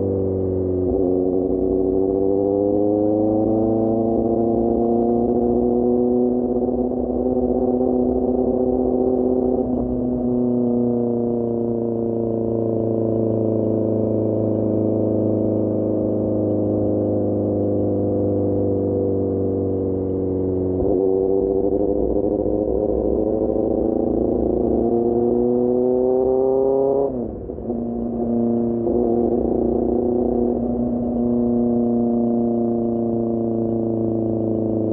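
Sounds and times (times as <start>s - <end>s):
motorcycle engine at steady revs: 0.0s - 34.9s.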